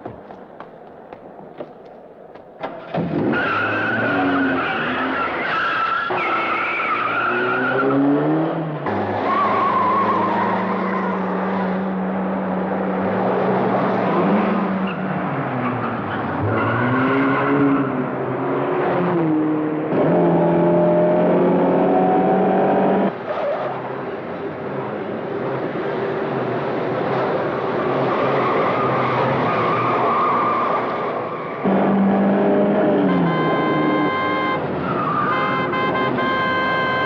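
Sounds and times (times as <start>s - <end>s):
car engines revving hard: 2.7s - 37.0s.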